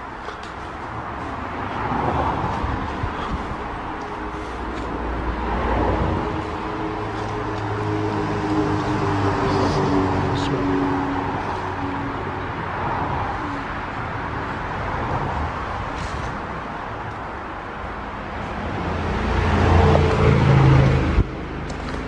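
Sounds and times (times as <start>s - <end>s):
vehicle engine: 0.0s - 22.0s.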